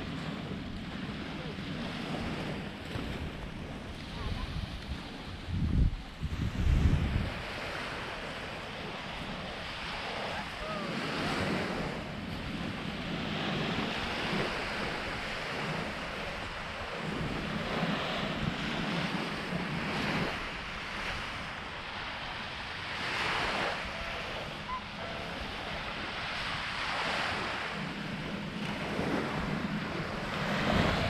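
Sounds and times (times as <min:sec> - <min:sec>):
small waves washing onto sand: 0:00.0 - 0:31.0
wind buffeting microphone: 0:00.0 - 0:31.0.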